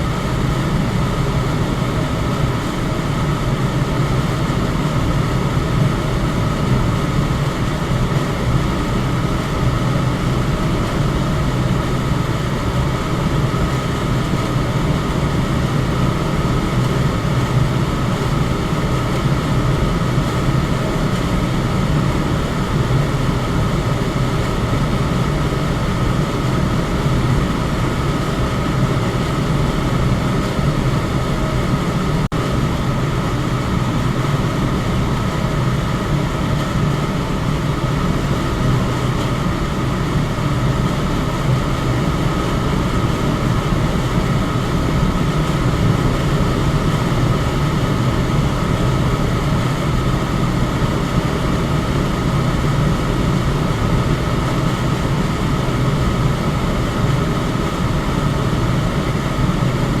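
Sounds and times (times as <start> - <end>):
electric fan running: 0.0 - 60.0.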